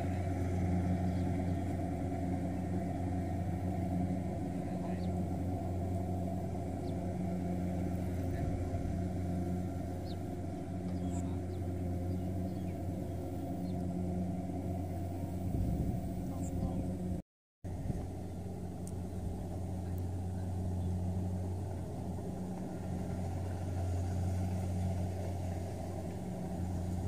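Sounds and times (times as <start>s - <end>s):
diesel engine humming: 0.0s - 27.0s.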